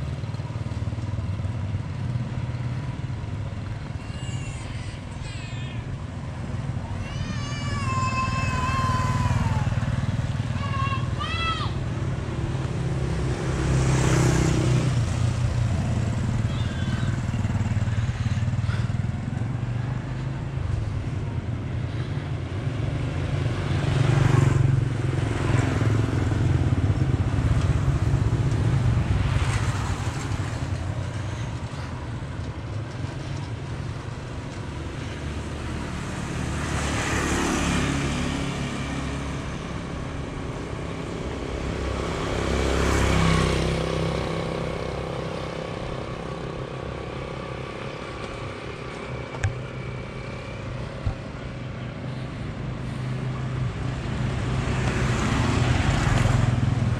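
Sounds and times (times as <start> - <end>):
motorbikes and cars passing: 0.0 - 56.9.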